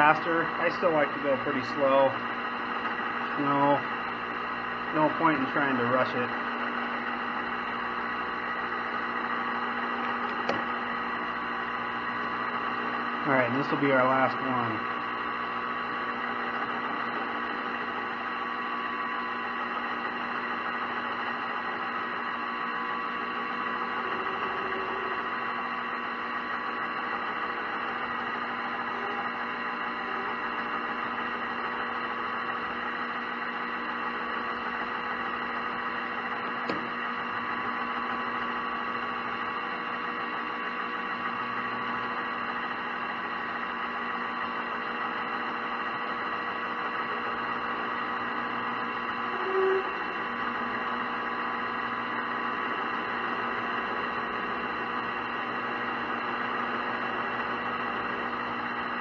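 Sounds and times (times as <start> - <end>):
metal lathe humming and whining: 0.0 - 59.0.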